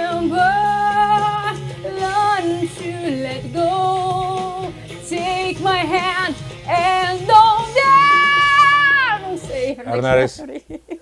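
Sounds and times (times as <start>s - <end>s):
woman singing: 0.0s - 10.1s.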